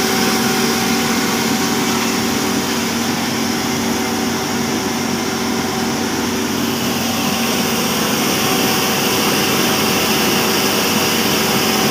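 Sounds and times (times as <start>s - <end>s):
grinder machine running: 0.0s - 11.9s.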